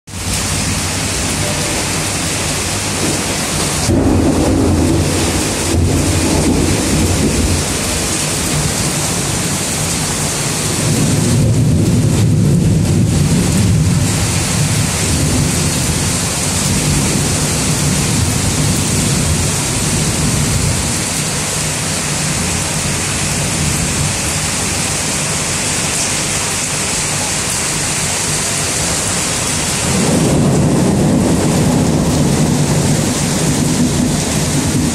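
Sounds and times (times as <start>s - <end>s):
thunder rumbling: 0.1s - 25.6s, 28.0s - 34.9s
heavy rain hissing: 0.1s - 34.9s.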